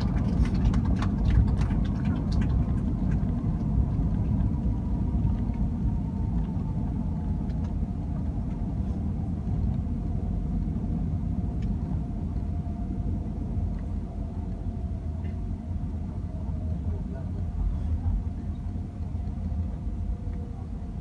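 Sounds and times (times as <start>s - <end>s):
jet engine hum and whine: 0.0s - 21.0s
wheels rumbling on runway: 0.0s - 21.0s.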